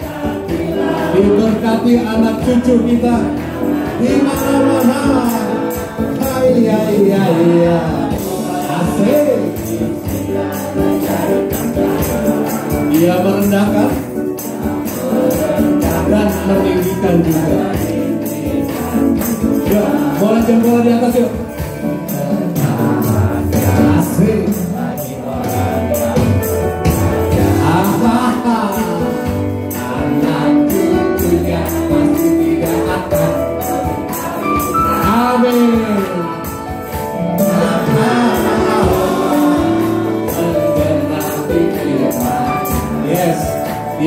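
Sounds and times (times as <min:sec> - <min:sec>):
congregation clapping: 0:00.0 - 0:44.0
group singing worship music: 0:00.0 - 0:44.0
tambourine jingling: 0:00.0 - 0:44.0.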